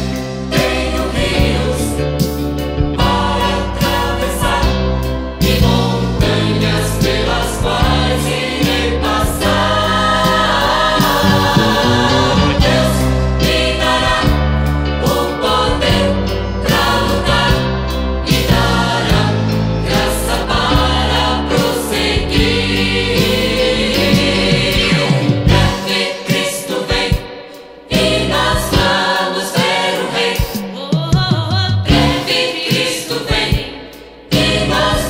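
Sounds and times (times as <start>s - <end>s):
choir singing a hymn: 0.0s - 35.0s
instrumental backing: 0.0s - 35.0s.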